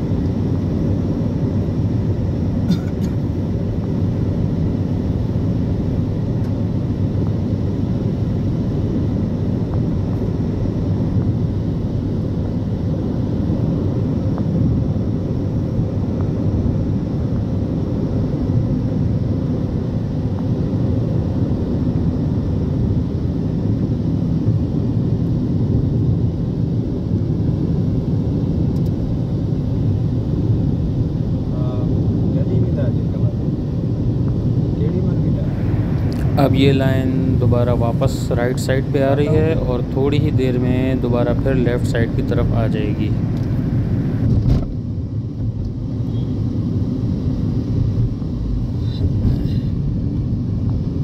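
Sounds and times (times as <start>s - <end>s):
car road noise from cabin: 0.0s - 51.0s.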